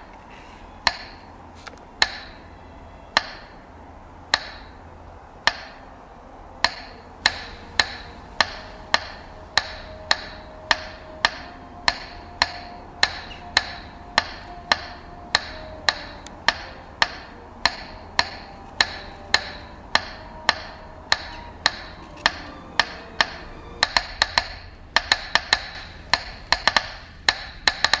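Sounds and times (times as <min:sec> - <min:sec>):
sharp ringing knocks: 0:00.9 - 0:01.3, 0:02.0 - 0:02.5, 0:03.2 - 0:03.6, 0:04.3 - 0:04.8, 0:05.5 - 0:05.9, 0:06.6 - 0:28.0.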